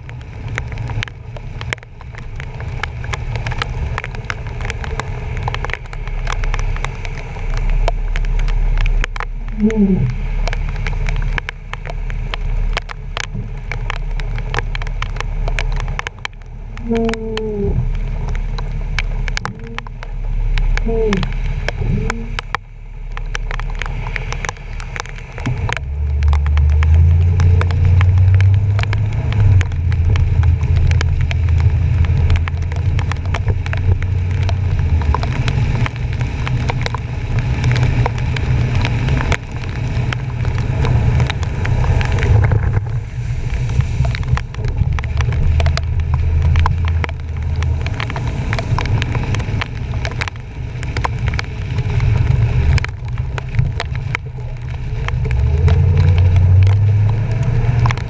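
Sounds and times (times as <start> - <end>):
heavy low engine rumble: 0.0 - 58.0
water rushing and splashing: 0.0 - 58.0
water ticking on camera housing: 0.0 - 58.0.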